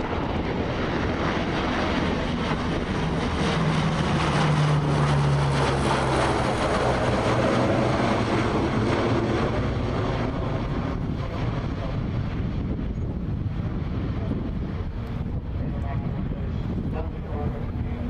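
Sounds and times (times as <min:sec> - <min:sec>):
turboprop aircraft passing overhead: 0:00.0 - 0:18.0.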